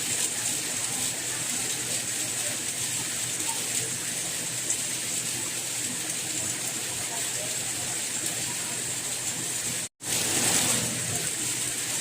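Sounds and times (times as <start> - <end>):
soft rain falling: 0.0 - 12.0.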